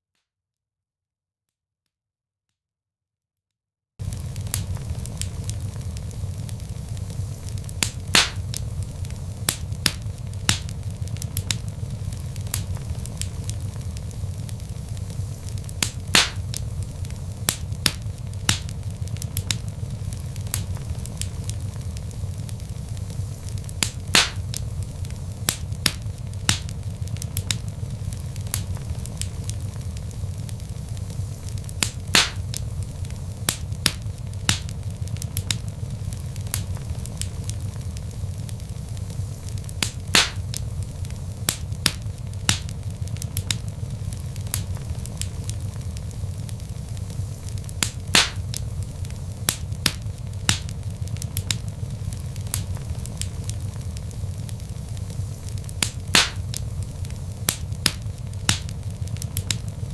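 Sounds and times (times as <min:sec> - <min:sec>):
log fire crackling: 0:04.0 - 0:59.9.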